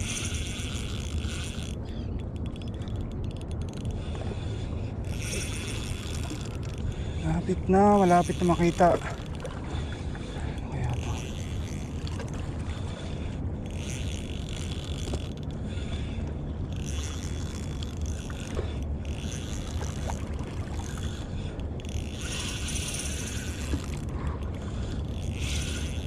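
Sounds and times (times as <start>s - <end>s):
boat noise: 0.0s - 26.0s
fishing reel whirring: 0.0s - 26.0s
wind: 0.0s - 26.0s.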